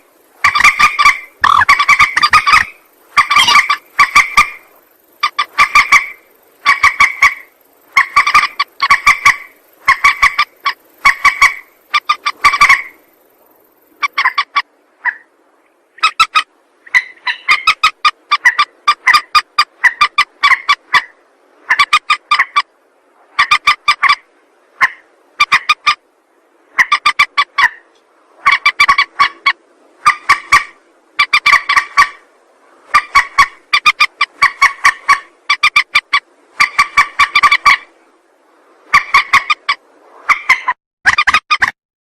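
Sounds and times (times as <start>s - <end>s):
bird harsh clucking calls: 0.0s - 15.3s, 16.0s - 22.7s, 23.3s - 26.0s, 26.7s - 32.3s, 32.9s - 38.0s, 38.8s - 41.8s.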